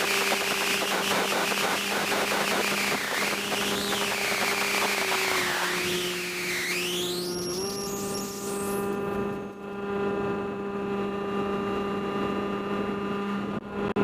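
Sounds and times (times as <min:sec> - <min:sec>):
electric motor and propeller whine: 0:00.0 - 0:14.0.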